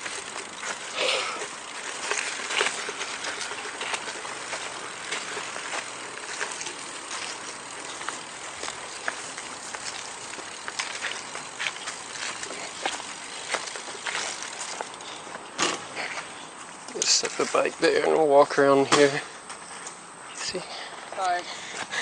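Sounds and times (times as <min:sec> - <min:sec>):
footsteps crunching on dirt: 0:00.0 - 0:18.3
outdoor hiss: 0:00.0 - 0:22.0.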